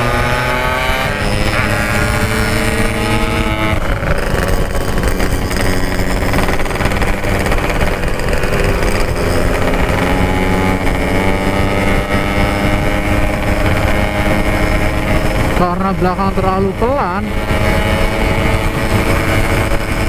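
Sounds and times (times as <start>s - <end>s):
motorcycle engine cruising: 0.0s - 20.0s.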